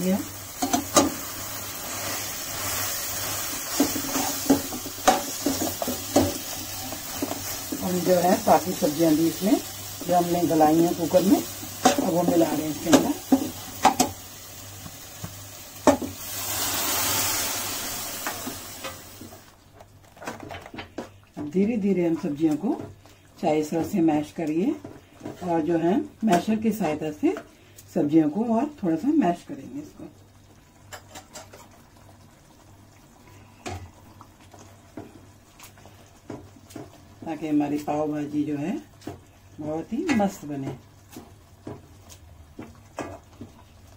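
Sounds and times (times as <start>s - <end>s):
vegetables sizzling in a pan: 0.0s - 19.6s, 21.5s - 43.9s.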